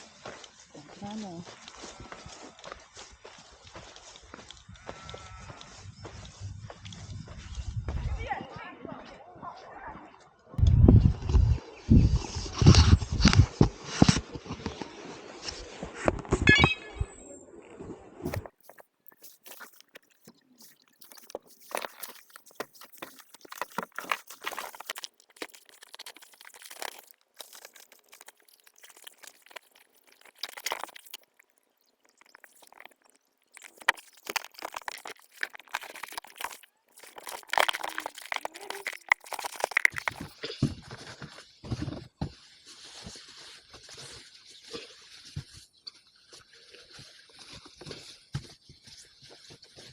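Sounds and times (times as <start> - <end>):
close-up rustling and crunching: 0.0 - 8.3, 18.2 - 49.9.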